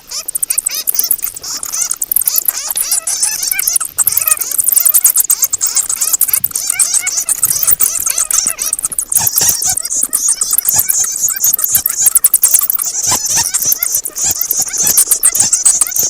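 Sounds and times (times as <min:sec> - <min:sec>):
bats squeaking and chattering: 0:00.0 - 0:16.0
clicks: 0:00.0 - 0:16.0.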